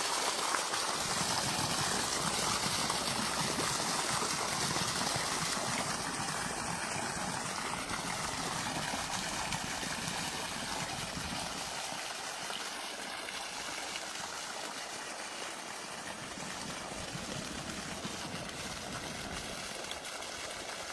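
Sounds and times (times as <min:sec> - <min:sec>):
stream flowing: 0:00.0 - 0:20.9.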